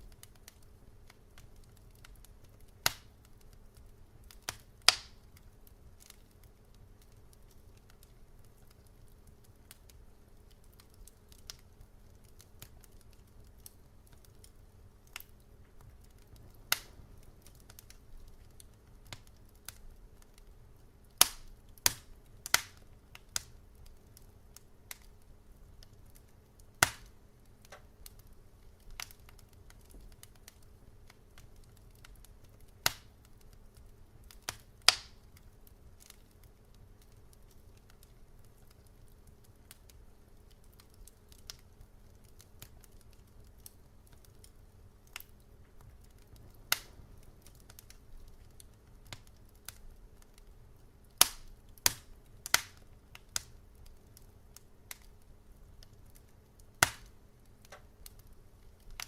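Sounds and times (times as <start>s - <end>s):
faint low hum: 0.0s - 59.0s
wood fire crackling: 0.0s - 59.0s.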